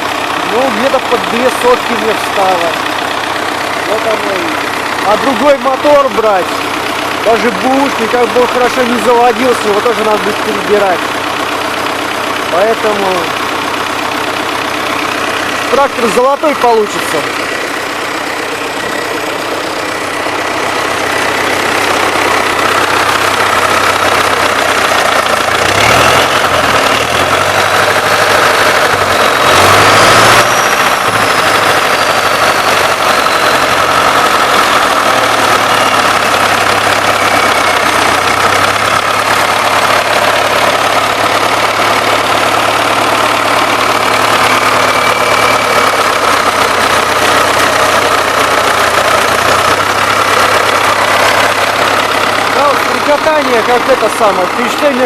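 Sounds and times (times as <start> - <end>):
knocking diesel engine running: 0.0 - 55.0.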